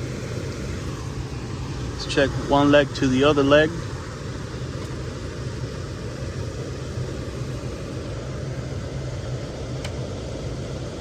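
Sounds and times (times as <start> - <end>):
air handler blower humming: 0.0 - 11.0.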